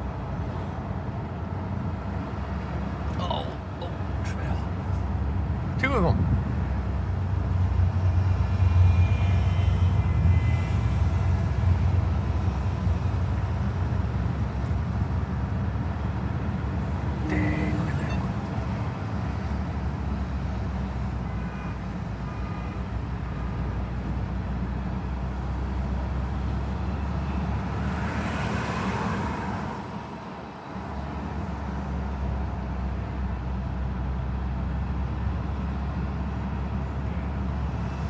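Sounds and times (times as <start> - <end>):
low rumble of road traffic: 0.0 - 38.0.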